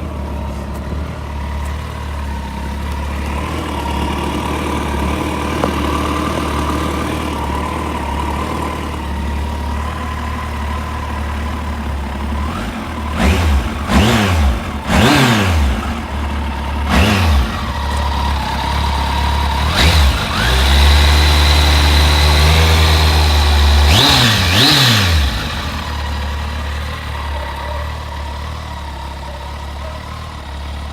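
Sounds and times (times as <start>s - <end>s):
motorcycle engine idling and revving: 0.0s - 30.9s.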